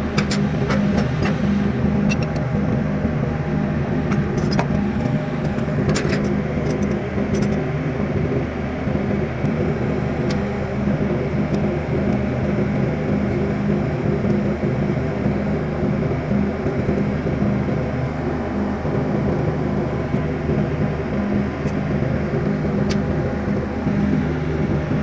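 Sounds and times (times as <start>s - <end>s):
engine hum: 0.0s - 25.0s.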